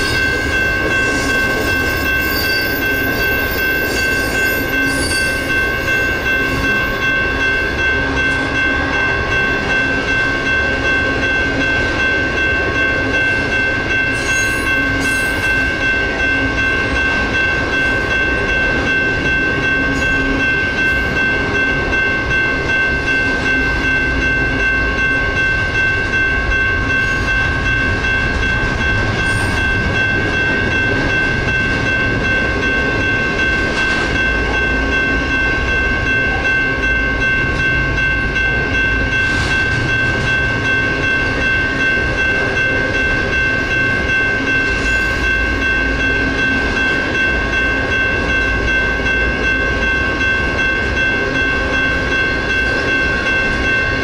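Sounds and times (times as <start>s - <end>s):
freight train wheels rumbling: 0.0s - 54.0s
railroad crossing bells ringing: 0.0s - 54.0s.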